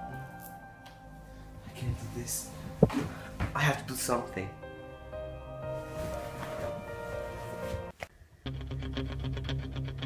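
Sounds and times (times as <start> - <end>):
background music of sustained notes: 0.0 - 9.9.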